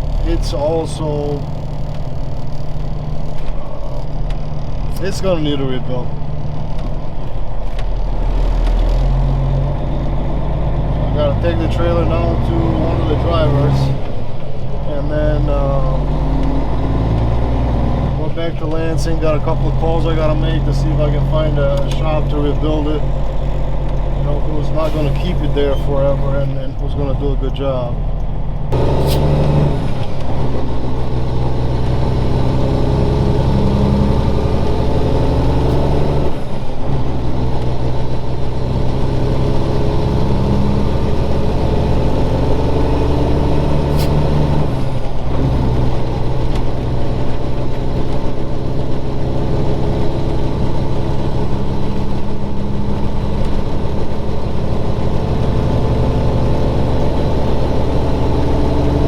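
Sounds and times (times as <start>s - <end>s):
truck diesel engine under load: 0.0s - 59.0s.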